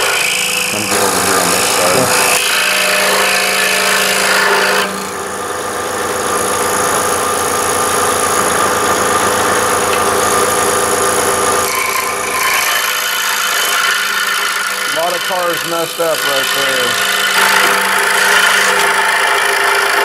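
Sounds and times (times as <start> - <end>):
scroll saw cutting wood: 0.0 - 20.0.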